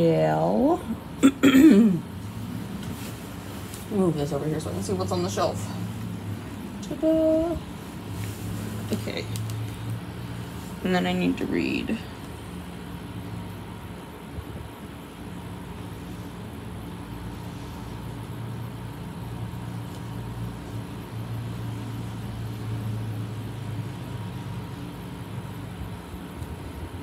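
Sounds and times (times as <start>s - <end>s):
low droning hum: 0.0s - 27.0s.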